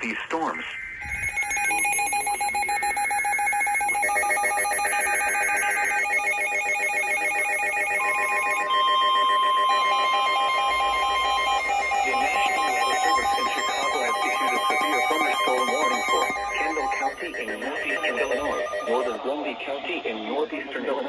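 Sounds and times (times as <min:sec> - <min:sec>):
chopped data tones: 0:00.0 - 0:19.2
electronic alert tones: 0:00.7 - 0:19.2.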